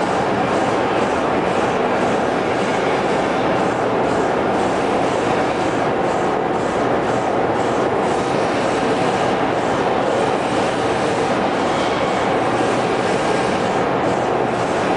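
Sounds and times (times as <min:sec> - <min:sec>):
hydraulic press running: 0:00.0 - 0:14.9.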